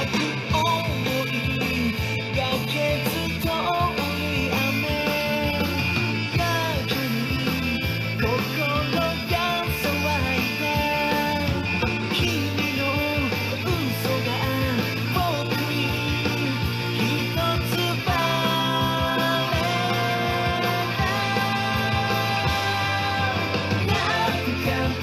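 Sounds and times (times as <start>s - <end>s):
rock song with singing: 0.0s - 25.0s.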